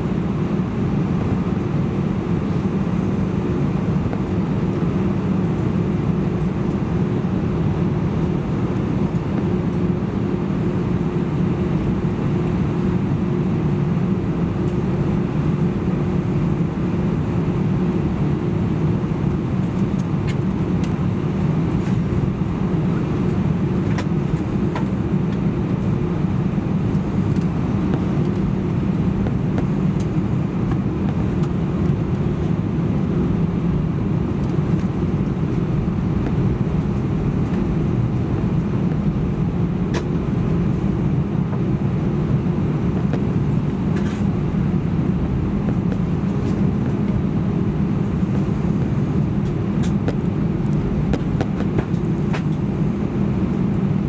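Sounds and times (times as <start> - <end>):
aircraft cabin rumble: 0.0 - 54.0.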